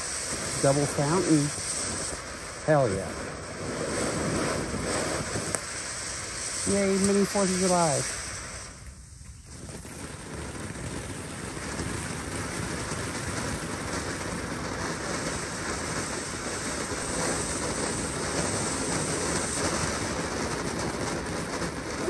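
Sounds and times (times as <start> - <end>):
firework fountain hissing: 0.0 - 22.0.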